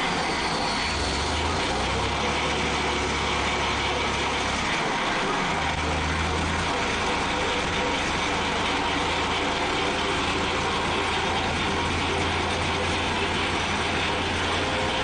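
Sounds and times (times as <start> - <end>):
mower working: 0.0 - 15.0
tractor engine running: 0.0 - 15.0.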